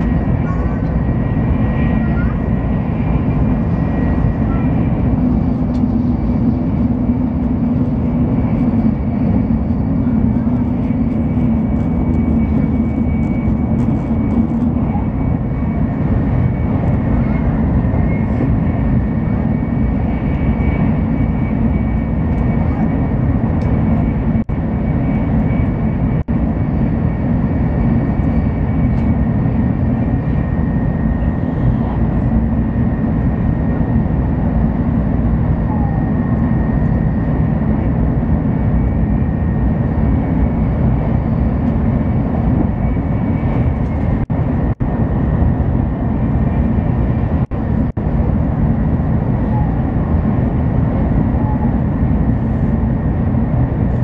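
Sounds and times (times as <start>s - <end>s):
high-speed train rumble: 0.0s - 54.0s.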